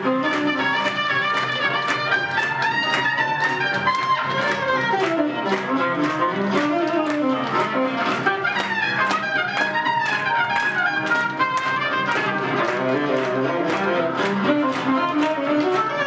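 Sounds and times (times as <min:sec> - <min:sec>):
swing jazz with horns: 0:00.0 - 0:16.0.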